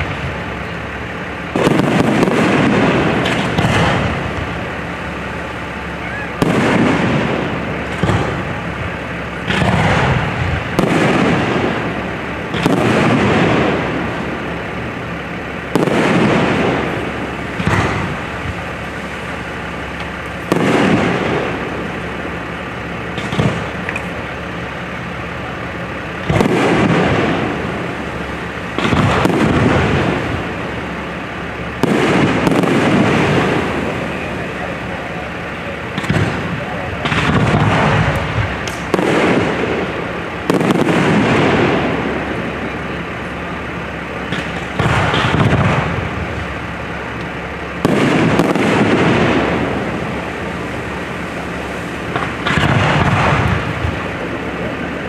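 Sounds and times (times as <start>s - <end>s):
fireworks booming: 0.0s - 55.0s.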